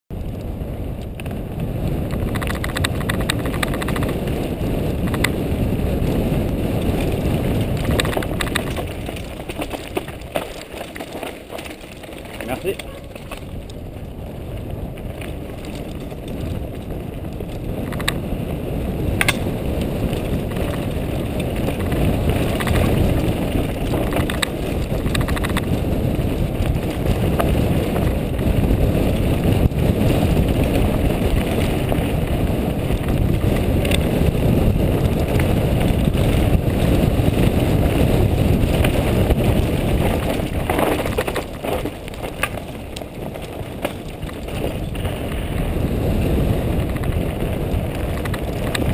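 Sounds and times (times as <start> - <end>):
bike knocking and rattling: 0.1 - 48.9
bike tyres rumbling over stones: 0.1 - 48.9
wind on microphone: 0.1 - 48.9.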